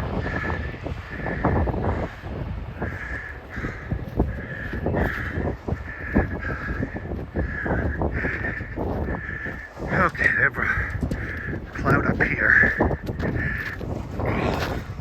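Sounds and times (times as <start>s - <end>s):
crows cawing: 0.0s - 15.0s
wind buffeting microphone: 0.0s - 15.0s.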